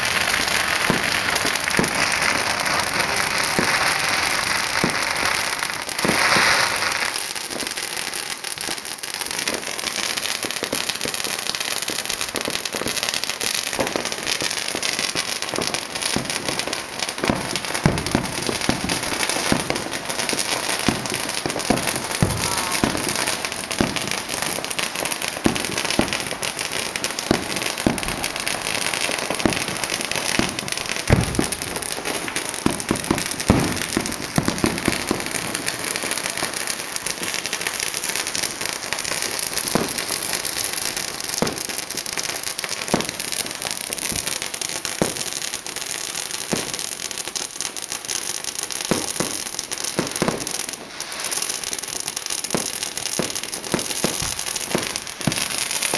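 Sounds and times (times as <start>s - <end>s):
firecrackers crackling: 0.0s - 55.9s
fireworks bangs: 0.0s - 55.9s.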